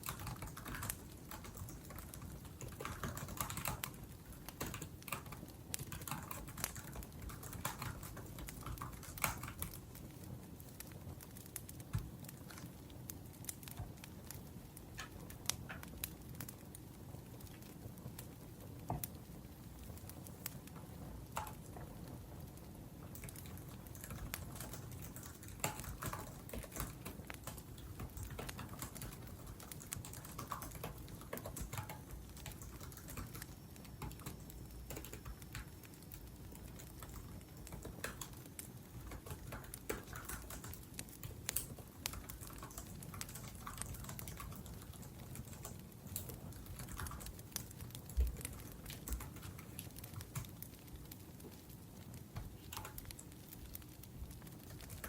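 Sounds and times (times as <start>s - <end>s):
typing on laptop keyboard: 0.0s - 16.7s, 21.2s - 21.8s, 23.1s - 55.0s.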